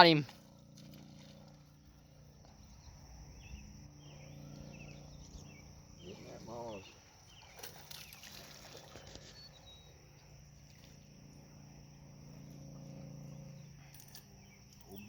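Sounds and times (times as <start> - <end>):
insects trilling: 0.0 - 15.0
low hum: 0.2 - 15.0.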